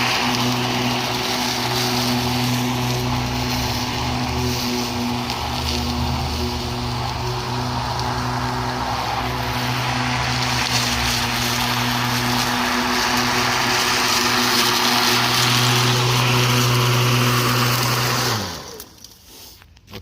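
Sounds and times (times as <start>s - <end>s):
electric lawn mower motor hum: 0.0s - 19.1s
mower blade cutting grass: 0.0s - 19.6s.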